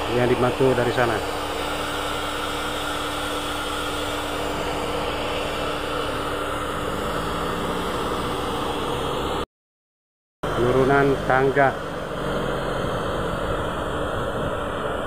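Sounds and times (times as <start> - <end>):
low machinery hum: 0.0 - 9.4, 10.4 - 15.0.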